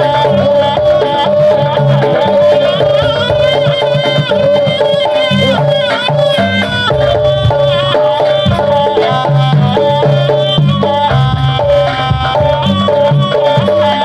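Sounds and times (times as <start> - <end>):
drums: 0.0 - 14.0
wavering melodic lead: 0.0 - 14.0.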